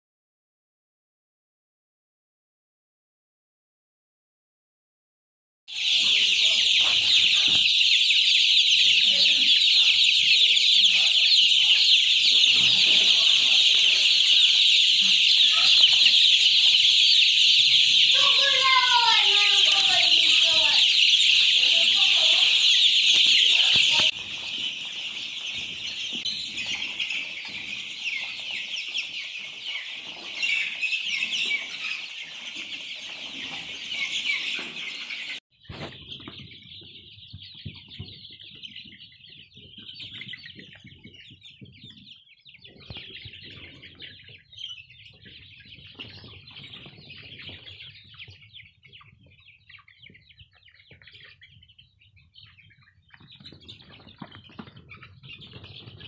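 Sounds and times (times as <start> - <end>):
chicks peeping: 5.7 - 56.0.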